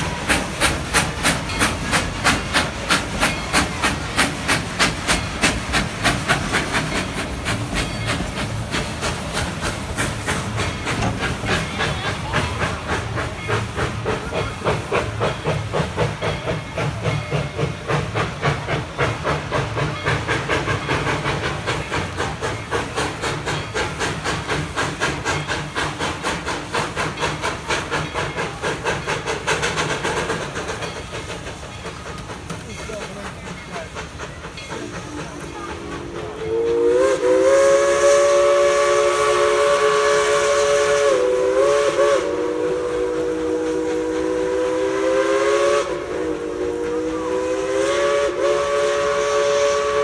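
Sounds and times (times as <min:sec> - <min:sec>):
steam hissing: 0:00.0 - 0:50.0
steam locomotive chuffing: 0:00.0 - 0:50.0.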